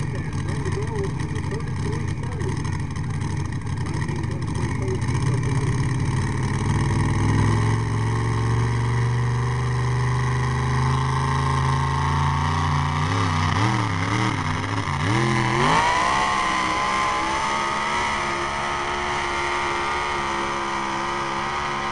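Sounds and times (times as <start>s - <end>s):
tractor engine revving under load: 0.0s - 21.9s.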